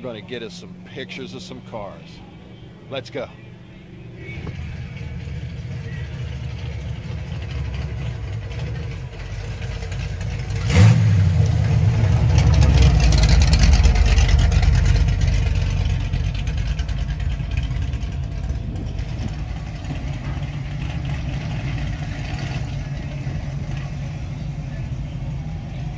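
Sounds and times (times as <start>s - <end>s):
cars idling and rolling: 0.0s - 25.9s
car engine revving hard: 4.2s - 25.9s.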